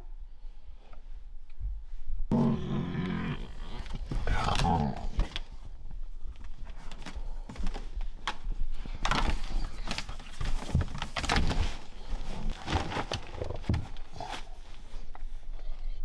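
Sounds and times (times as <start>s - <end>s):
scratching and rustling of blanket: 0.6s - 16.0s.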